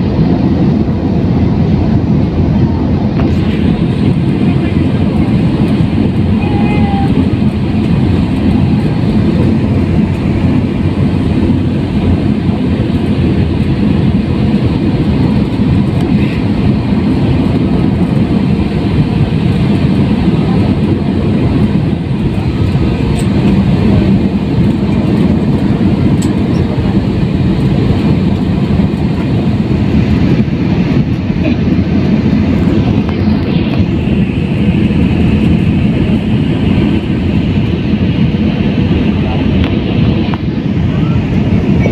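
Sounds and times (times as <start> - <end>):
jet airliner cabin rumble: 0.0 - 41.9.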